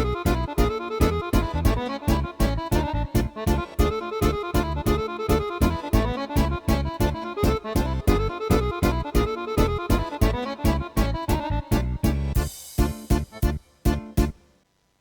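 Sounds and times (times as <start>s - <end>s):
bass line: 0.0s - 14.4s
keyboard drum beat: 0.0s - 14.4s
keyboard melody: 0.0s - 14.4s.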